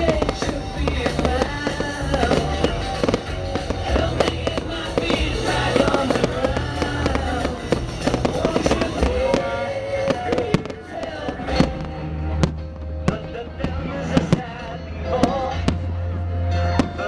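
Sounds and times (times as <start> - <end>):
fireworks bursting and crackling: 0.0 - 16.0, 16.7 - 17.0
loud music: 0.0 - 17.0.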